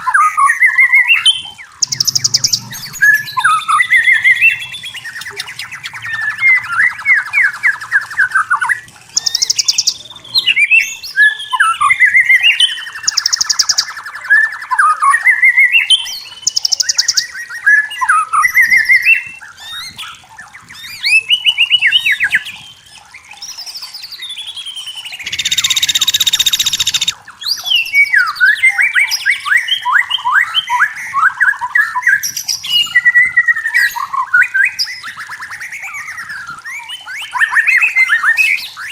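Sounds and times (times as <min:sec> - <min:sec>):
bird whistling and trilling song: 0:00.0 - 0:38.9.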